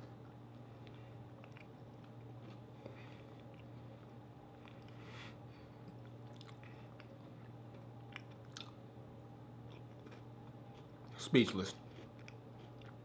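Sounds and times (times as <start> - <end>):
faint chewing with crisp crunches: 0.0 - 8.8, 9.5 - 13.0
steady low hum: 0.0 - 13.0.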